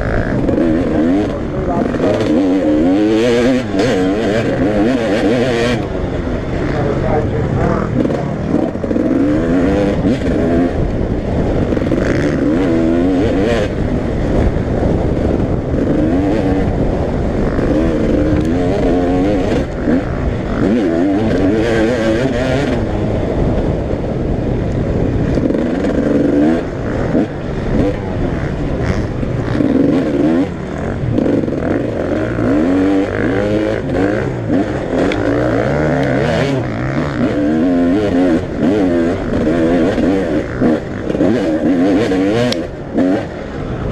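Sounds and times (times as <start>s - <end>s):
motocross bike engines revving: 0.0s - 43.9s.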